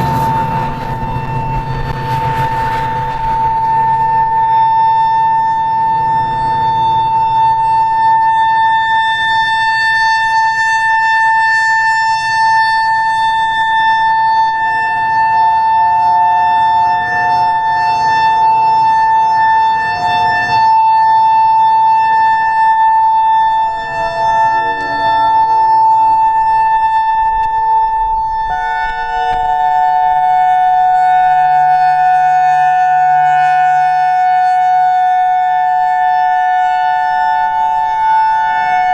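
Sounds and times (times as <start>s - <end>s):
lower siren tone wavering: 0.0s - 38.9s
warning siren steady tone: 0.0s - 38.9s.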